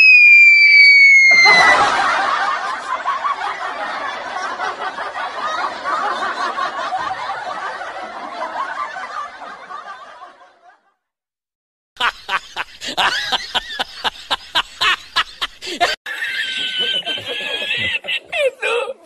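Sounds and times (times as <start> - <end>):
group laughter: 1.3 - 11.0, 12.0 - 19.0.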